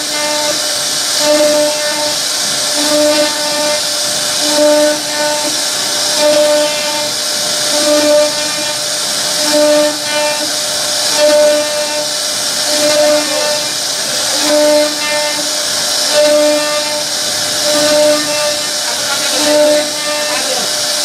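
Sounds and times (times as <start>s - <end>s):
router cutting hiss: 0.0s - 21.0s
router head hum: 0.0s - 21.0s.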